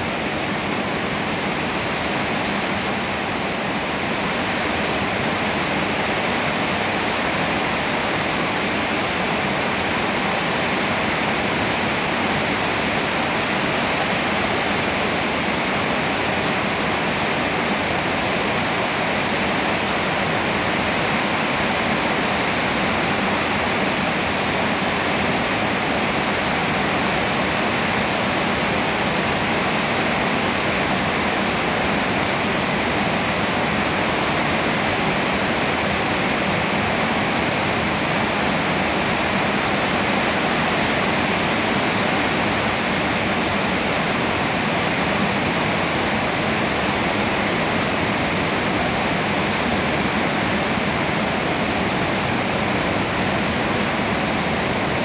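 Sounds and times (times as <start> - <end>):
rain falling on leafy trees: 0.0 - 55.0.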